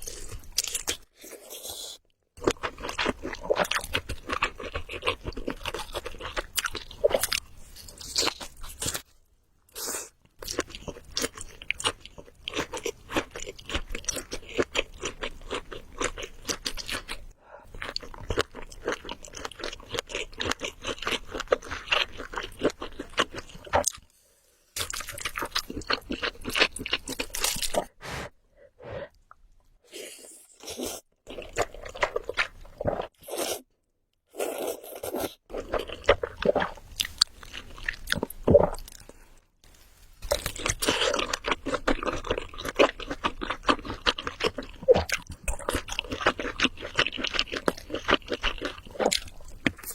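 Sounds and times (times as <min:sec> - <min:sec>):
chewing and crunching: 0:00.0 - 0:09.1, 0:10.3 - 0:24.0, 0:24.8 - 0:28.0, 0:30.2 - 0:33.7, 0:34.3 - 0:39.4, 0:40.2 - 0:49.9.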